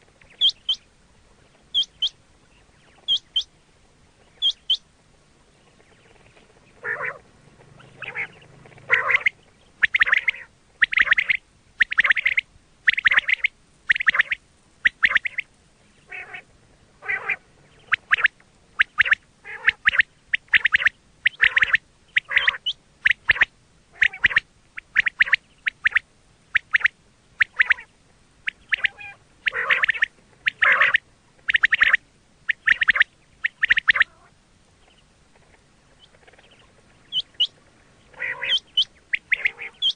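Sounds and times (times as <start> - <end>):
quail calling: 0.0 - 3.5, 4.2 - 4.9, 5.7 - 39.9.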